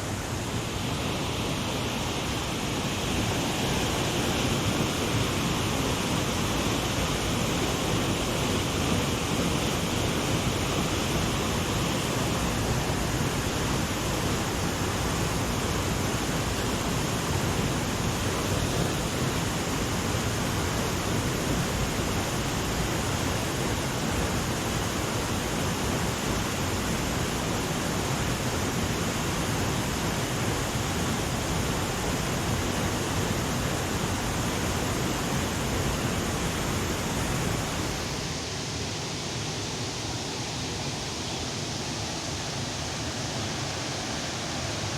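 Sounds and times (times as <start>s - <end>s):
river water rushing over rocks: 0.0s - 44.9s.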